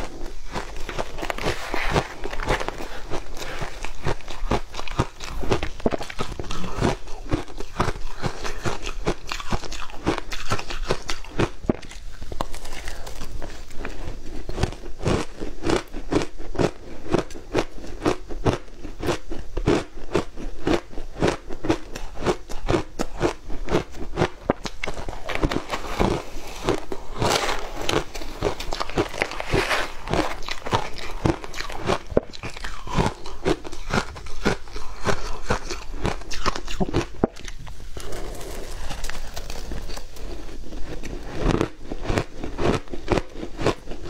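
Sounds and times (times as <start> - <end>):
chewing crunchy shaved ice: 0.0 - 44.0.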